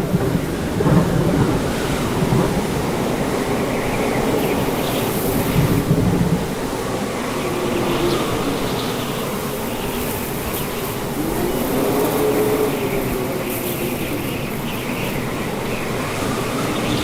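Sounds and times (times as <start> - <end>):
rain: 0.0 - 17.0
strong wind blowing: 0.0 - 17.0.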